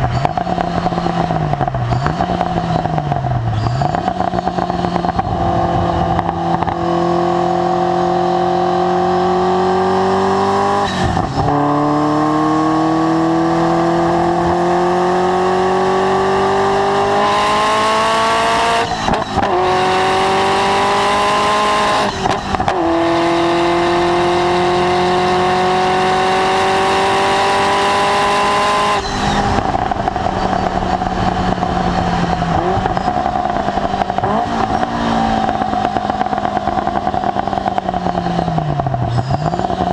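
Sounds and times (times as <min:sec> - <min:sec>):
car engine at full throttle: 0:00.0 - 0:39.9.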